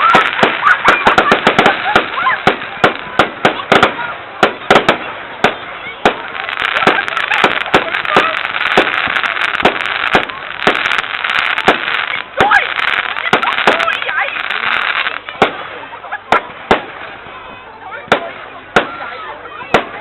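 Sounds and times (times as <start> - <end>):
fireworks bangs and pops: 0.0 - 17.2, 18.0 - 20.0
dense crackling hiss: 0.0 - 19.1.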